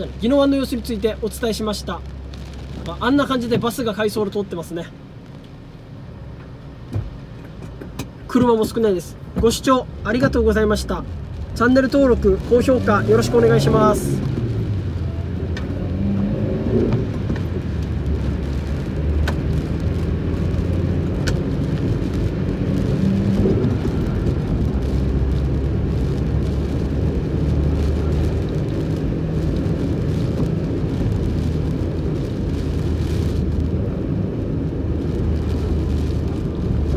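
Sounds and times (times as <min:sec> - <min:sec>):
tyres and engine rumbling: 0:00.0 - 0:36.9.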